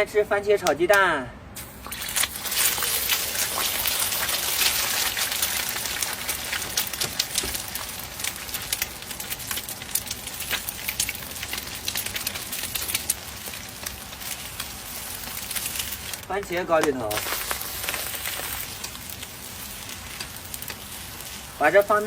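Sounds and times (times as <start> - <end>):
eggs sizzling in oil: 1.6 - 22.0.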